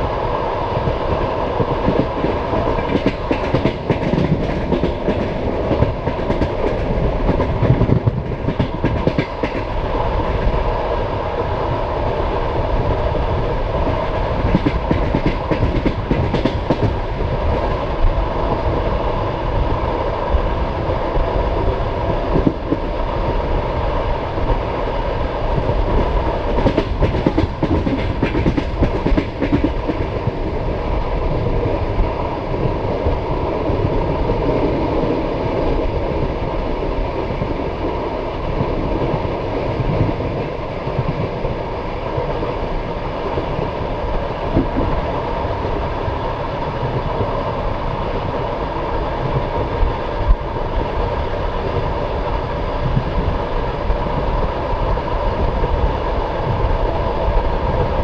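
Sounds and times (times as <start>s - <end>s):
train carriage rumble: 0.0s - 58.0s.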